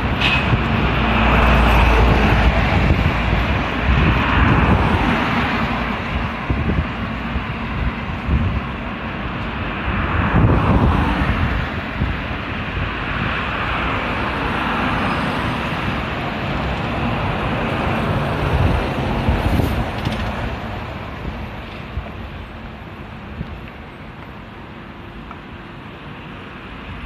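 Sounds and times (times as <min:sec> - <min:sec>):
heavy truck passing: 0:00.0 - 0:27.0
road traffic passing: 0:00.0 - 0:27.0.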